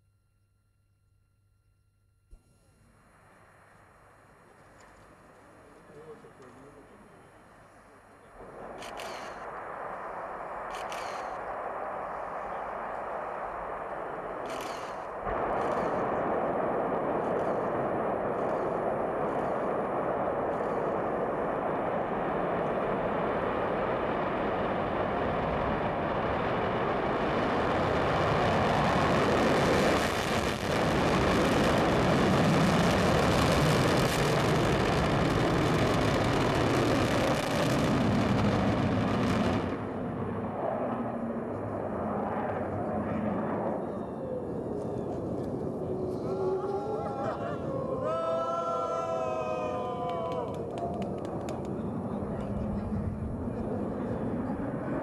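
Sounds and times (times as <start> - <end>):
distant rocket engines rushing: 2.6 - 55.0.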